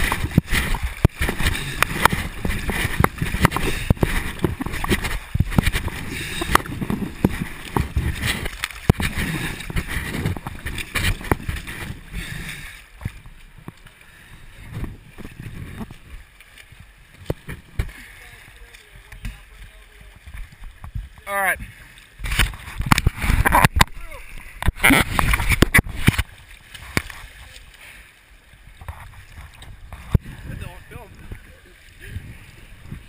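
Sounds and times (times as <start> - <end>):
river water rushing and splashing: 0.0 - 33.0
water gurgling: 0.0 - 33.0
water slapping: 0.0 - 33.0.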